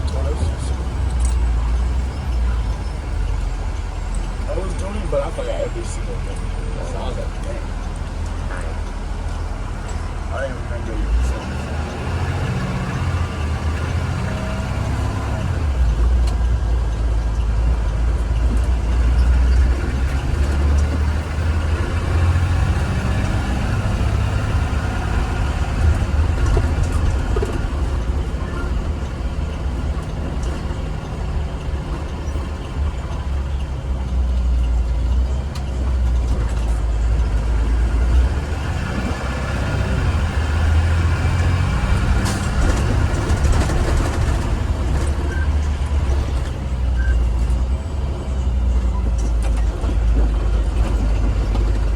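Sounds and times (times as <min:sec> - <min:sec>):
bus engine and road rumble: 0:00.0 - 0:51.9.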